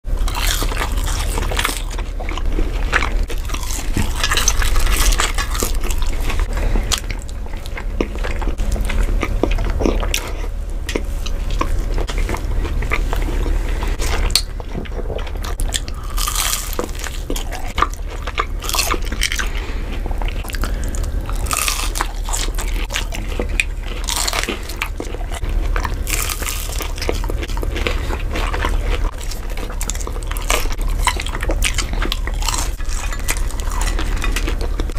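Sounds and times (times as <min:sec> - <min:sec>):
low hum: 0:00.0 - 0:34.9
people chewing crunchy food: 0:00.0 - 0:34.9.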